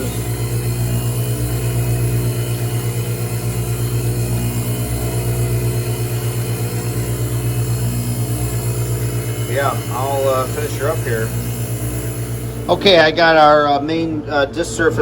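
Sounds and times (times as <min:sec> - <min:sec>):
flywheel grinder running: 0:00.0 - 0:15.0.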